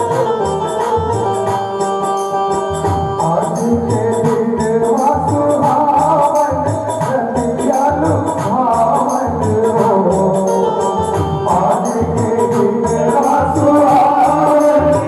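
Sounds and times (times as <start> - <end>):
hand drum beat: 0.0 - 15.0
jingling percussion: 0.0 - 15.0
reed organ melody: 0.0 - 15.0.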